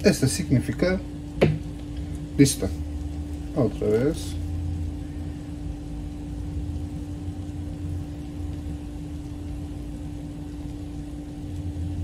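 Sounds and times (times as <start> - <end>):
constant hum: 0.0 - 12.0
syrup boiling in saucepan: 0.0 - 12.0.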